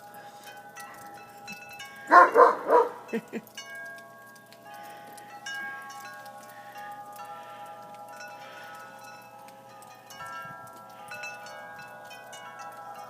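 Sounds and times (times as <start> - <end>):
wind chimes ringing: 0.0 - 13.0.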